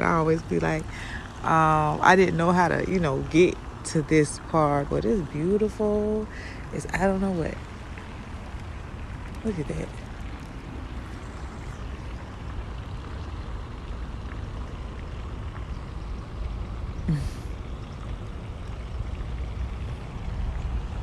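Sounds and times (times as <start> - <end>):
waterfall and fountain rushing: 0.0 - 21.0
wind rumble on microphone: 0.0 - 21.0.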